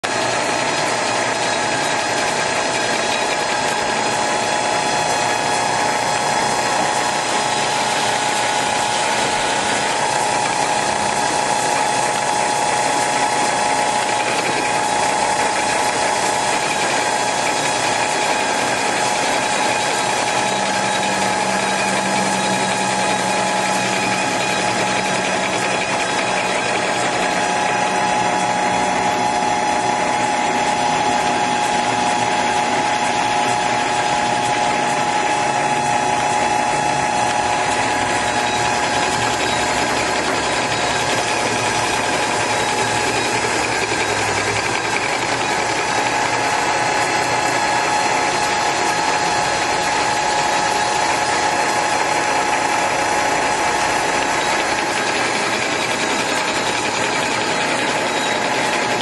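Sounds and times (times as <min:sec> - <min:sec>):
metal lathe running: 0:00.0 - 0:59.0.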